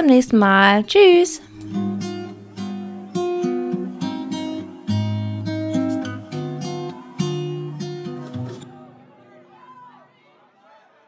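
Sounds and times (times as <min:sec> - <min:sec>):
acoustic guitar chords: 0:00.5 - 0:09.7.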